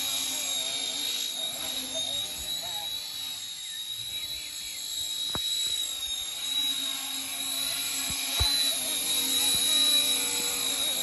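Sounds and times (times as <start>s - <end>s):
rc helicopter whine: 0.0s - 11.0s.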